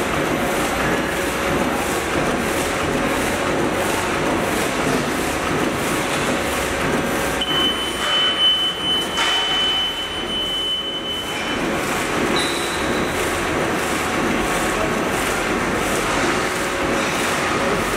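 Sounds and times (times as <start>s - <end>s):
bag-making machine clattering: 0.0s - 17.9s.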